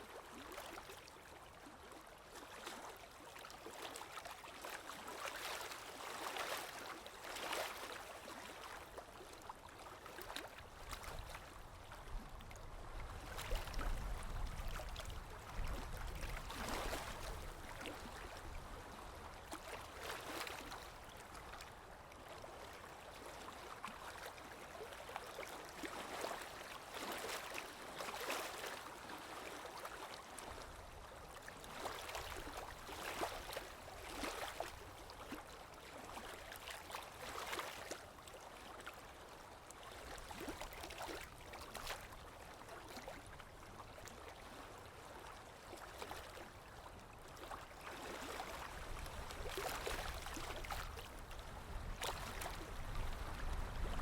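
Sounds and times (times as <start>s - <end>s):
small waves lapping: 0.0s - 54.0s.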